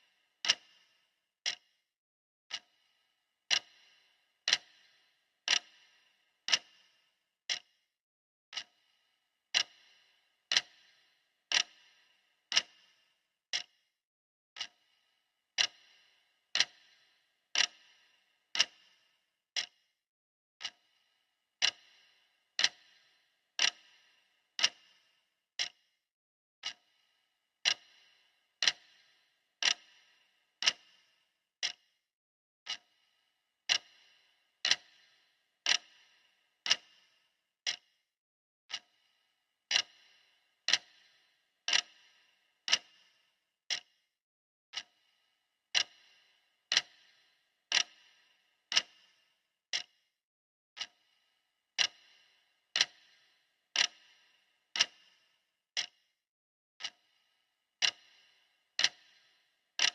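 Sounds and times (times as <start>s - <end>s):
clock ticking: 0.0s - 1.7s, 2.5s - 2.9s, 3.5s - 7.7s, 8.5s - 13.8s, 14.6s - 15.0s, 15.6s - 19.8s, 20.6s - 21.0s, 21.6s - 25.8s, 26.6s - 31.9s, 32.7s - 38.0s, 38.7s - 39.1s, 39.7s - 44.0s, 44.7s - 50.0s, 50.8s - 51.2s, 51.8s - 56.0s, 56.8s - 59.9s.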